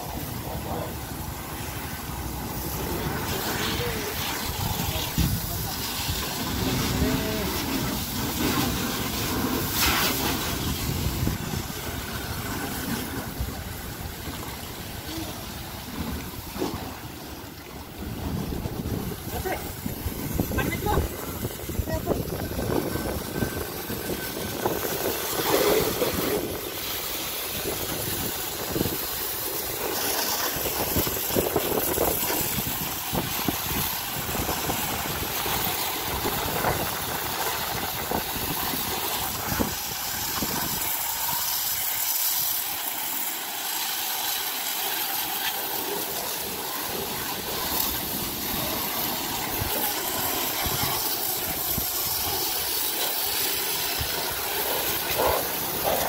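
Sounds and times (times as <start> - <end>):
hose water spraying on car: 0.0 - 56.0.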